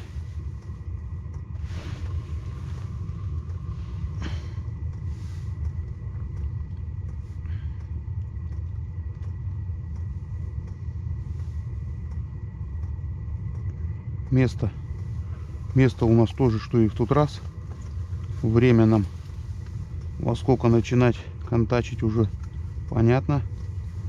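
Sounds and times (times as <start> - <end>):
vehicle engine and road noise: 0.0 - 24.0
faint ticks: 0.1 - 24.0.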